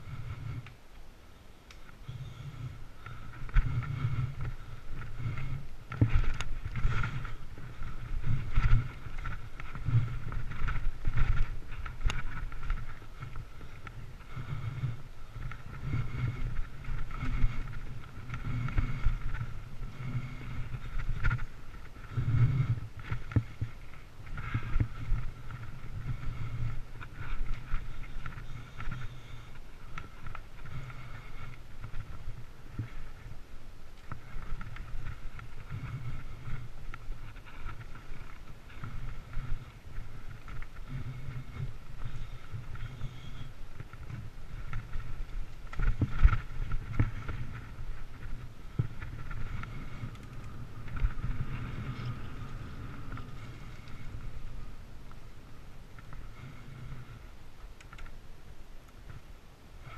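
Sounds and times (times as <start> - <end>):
faint steady whine: 0.0 - 59.9
bike tyres rumbling on dirt: 1.8 - 59.9.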